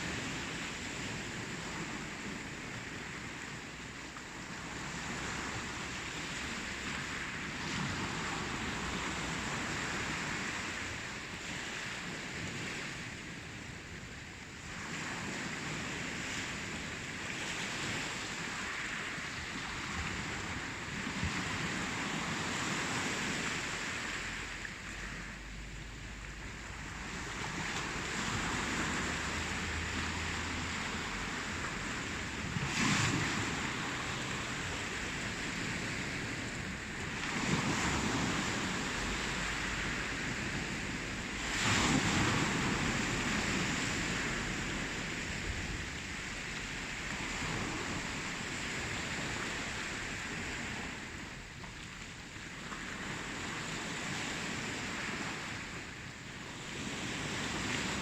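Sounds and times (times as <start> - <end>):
ocean surf washing: 0.0 - 58.0
waves breaking: 0.0 - 58.0.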